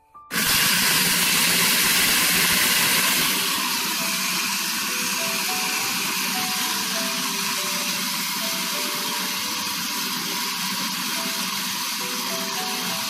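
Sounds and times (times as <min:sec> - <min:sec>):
electric grinder grinding seeds: 0:00.3 - 0:13.0.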